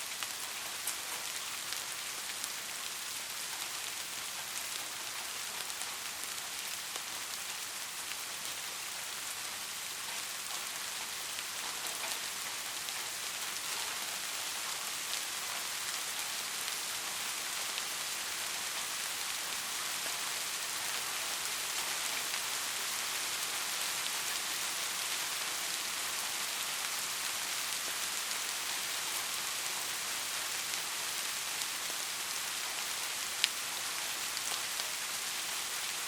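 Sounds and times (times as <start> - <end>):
raindrops ticking on a surface: 0.0 - 36.0
steady rain falling: 0.0 - 36.0.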